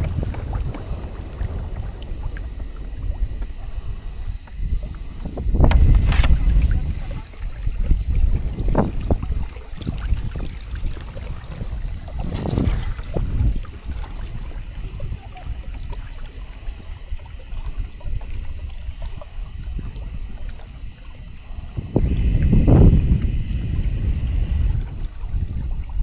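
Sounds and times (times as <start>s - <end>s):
small water splashes: 0.0s - 26.0s
water lapping against hull: 0.0s - 26.0s
wind rumble on microphone: 0.0s - 26.0s.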